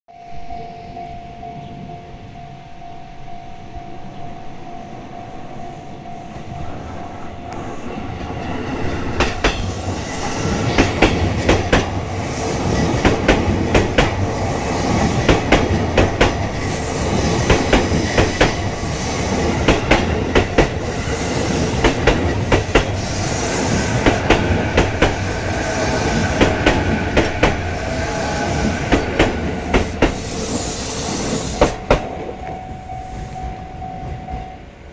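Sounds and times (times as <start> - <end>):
electric train inverter whine: 0.1 - 34.9
train rumble: 0.2 - 34.9
train wheels clacking: 6.3 - 34.6.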